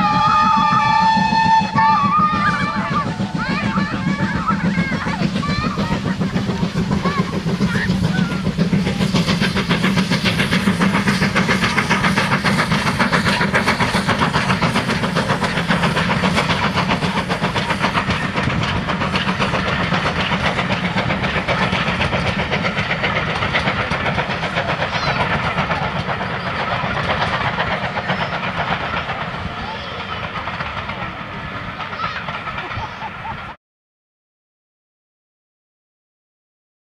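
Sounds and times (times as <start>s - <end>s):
steam locomotive exhaust beating: 0.0s - 33.6s
train coaches rolling: 0.0s - 33.6s.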